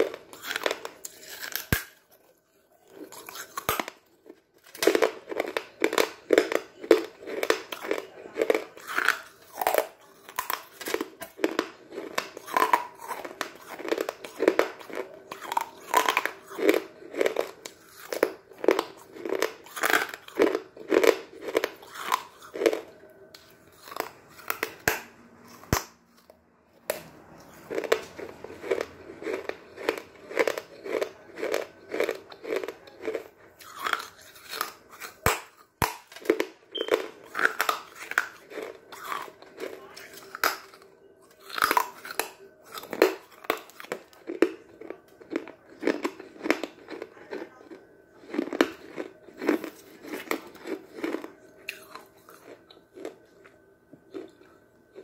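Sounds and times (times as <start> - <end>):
chewing crunchy chalk: 0.0 - 55.0.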